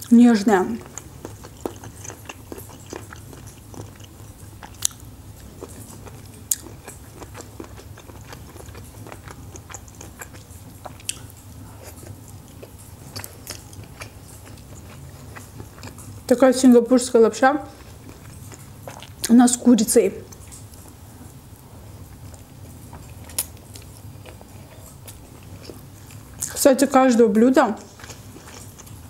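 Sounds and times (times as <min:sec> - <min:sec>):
close chewing with mouth clicks: 0:00.8 - 0:16.4, 0:17.6 - 0:19.4, 0:20.2 - 0:26.6, 0:27.8 - 0:29.0.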